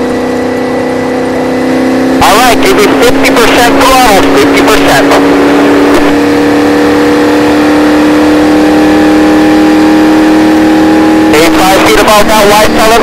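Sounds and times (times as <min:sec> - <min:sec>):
race car engine: 0:00.0 - 0:13.0.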